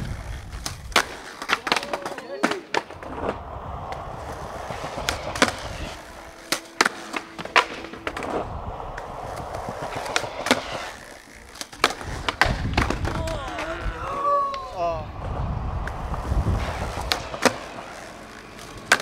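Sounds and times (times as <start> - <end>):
skateboard striking concrete: 0.0 - 19.0
skateboard wheels rolling: 0.0 - 19.0.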